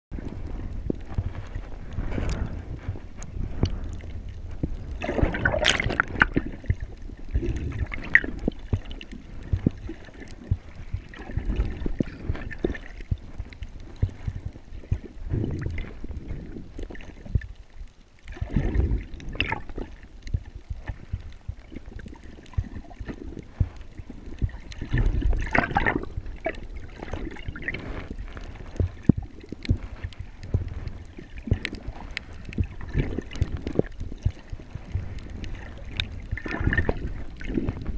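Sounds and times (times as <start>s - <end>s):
muffled underwater sloshing: 0.1s - 37.9s.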